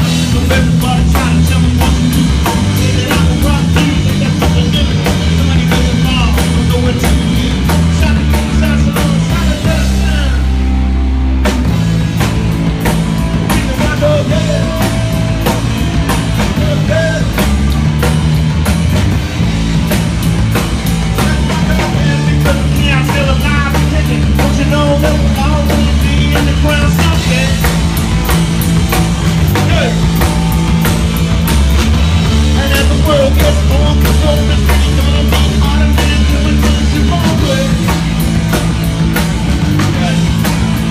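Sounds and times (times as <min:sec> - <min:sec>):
rock band playing live: 0:00.0 - 0:40.9.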